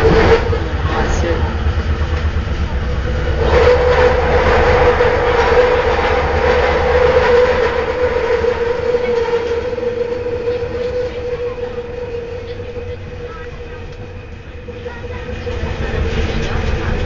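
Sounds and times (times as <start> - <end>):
train rumble and hiss: 0.0 - 17.0
train whine: 0.0 - 17.0.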